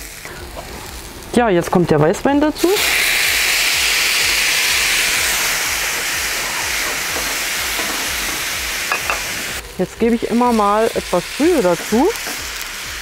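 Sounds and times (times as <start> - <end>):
wine sizzling in hot pan: 0.0 - 13.0.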